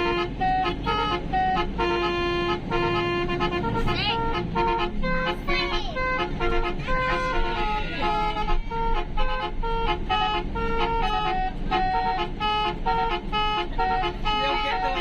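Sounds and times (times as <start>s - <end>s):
musical bus horn tune: 0.0s - 15.0s.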